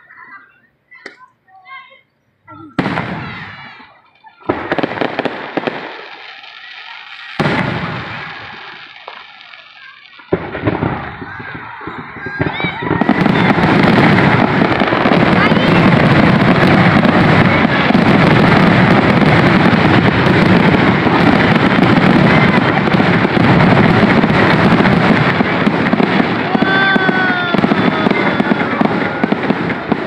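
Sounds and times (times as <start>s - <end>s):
fireworks bangs and crackle: 2.6s - 30.0s.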